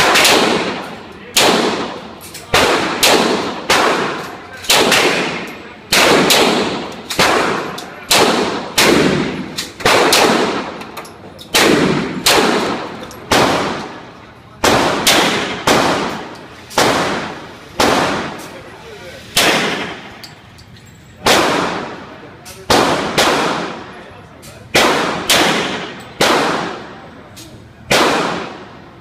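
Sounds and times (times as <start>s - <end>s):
pistol shots echoing indoors: 0.0s - 18.6s, 19.3s - 20.3s, 21.2s - 24.0s, 24.7s - 29.0s.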